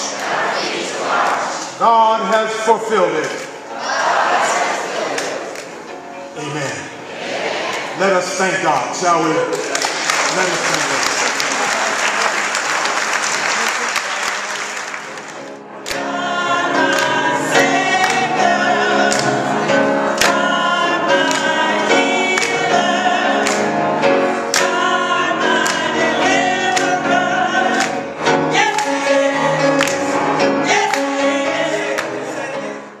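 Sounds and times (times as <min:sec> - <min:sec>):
gospel choir singing: 0:00.0 - 0:33.0.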